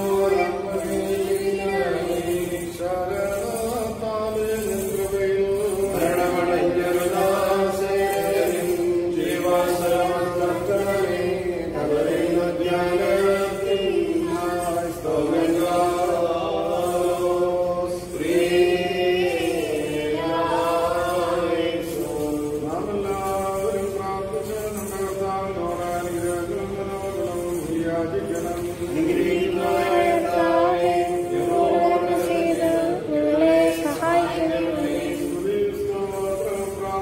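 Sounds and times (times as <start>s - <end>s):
voices chanting: 0.0s - 37.0s.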